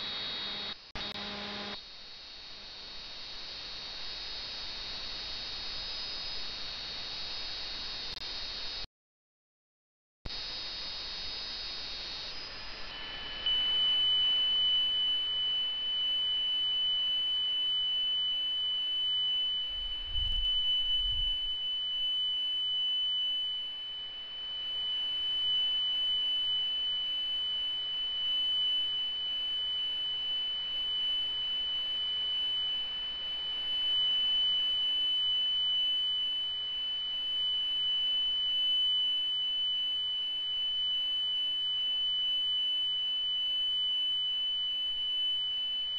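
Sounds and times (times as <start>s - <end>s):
steady high-pitched tone: 0.0s - 1.8s, 10.3s - 45.9s.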